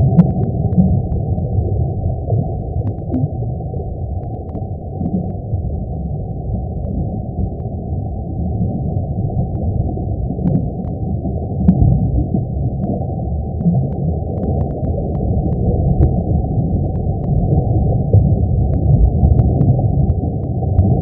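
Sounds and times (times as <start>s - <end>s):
faint crackles: 0.0s - 21.0s.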